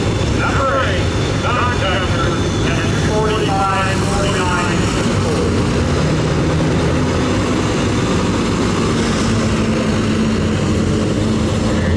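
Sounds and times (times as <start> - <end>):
pickup truck engine roaring: 0.0 - 11.9.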